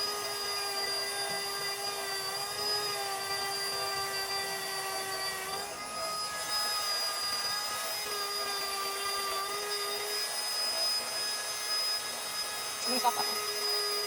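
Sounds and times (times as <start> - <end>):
small motor whining: 0.0 - 14.0.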